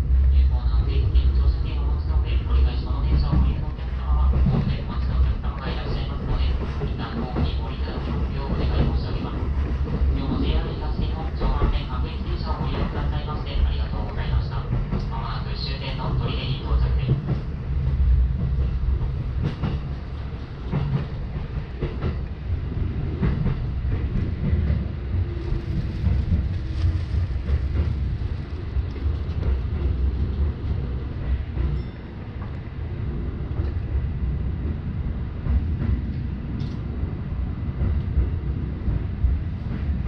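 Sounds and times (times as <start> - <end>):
train rumbling on rails: 0.0 - 40.0.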